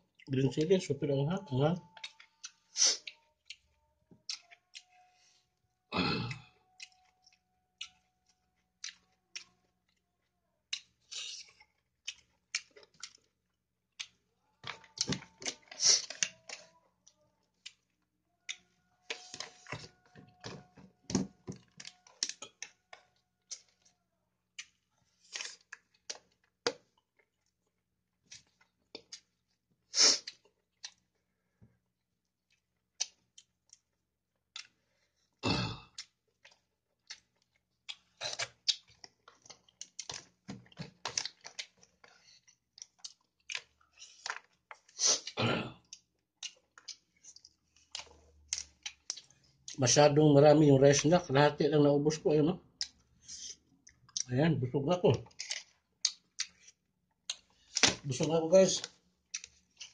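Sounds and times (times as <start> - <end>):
person chewing food: 0.0 - 49.9, 52.6 - 54.3, 55.0 - 59.9.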